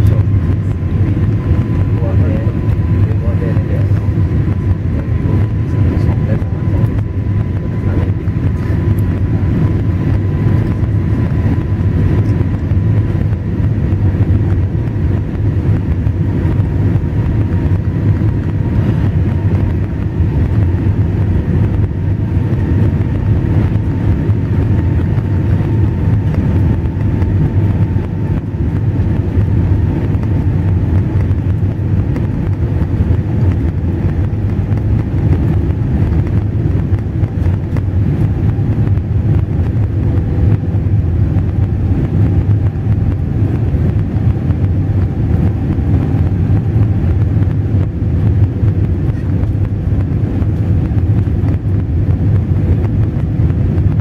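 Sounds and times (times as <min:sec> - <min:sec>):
airplane cabin engine rumble: 0:00.0 - 0:54.0
faint steady whine: 0:00.0 - 0:54.0.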